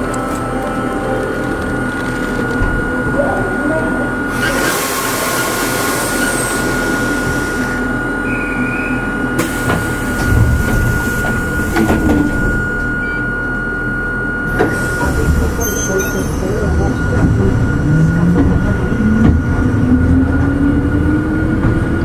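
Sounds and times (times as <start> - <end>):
electric railcar humming: 0.0 - 22.0
railcar low rumble: 0.0 - 22.0.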